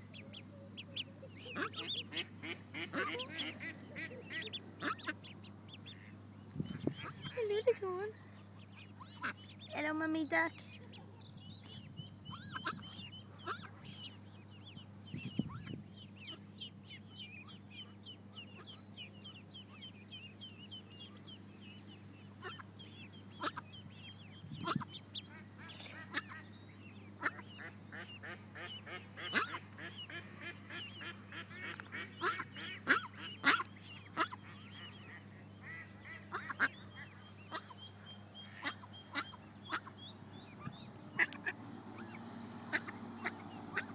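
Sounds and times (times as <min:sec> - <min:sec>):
ducklings peeping: 0:00.0 - 0:43.9.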